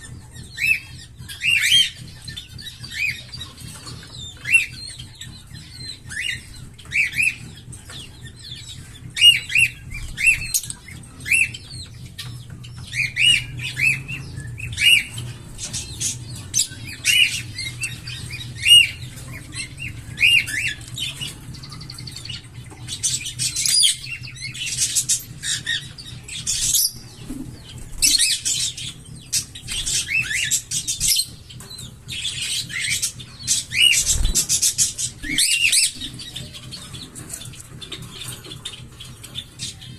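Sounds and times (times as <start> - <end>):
parrots chirping: 0.0 - 39.9
scratchy bird calls: 0.0 - 39.9.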